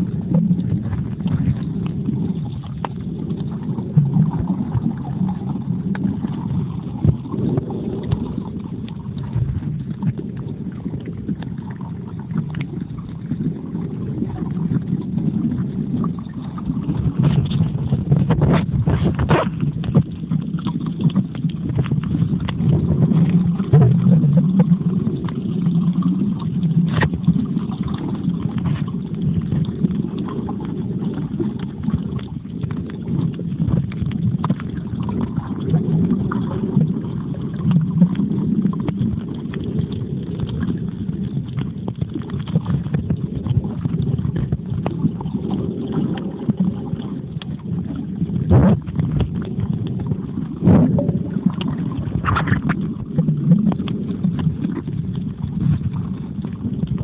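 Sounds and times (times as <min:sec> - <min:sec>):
underwater rumble of moving water: 0:00.0 - 0:57.0.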